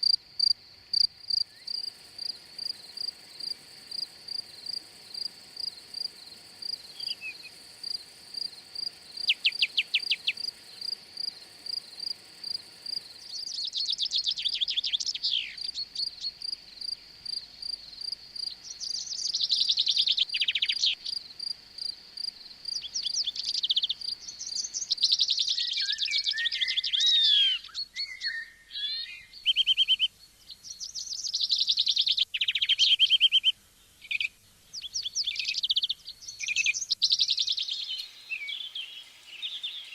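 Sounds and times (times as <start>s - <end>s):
songbirds trilling: 0.0s - 21.4s, 22.2s - 39.9s
cricket chirping: 0.0s - 39.9s.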